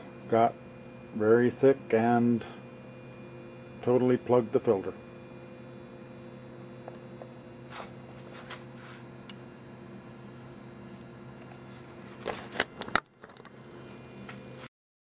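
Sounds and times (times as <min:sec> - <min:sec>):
low electrical hum: 0:00.0 - 0:14.7.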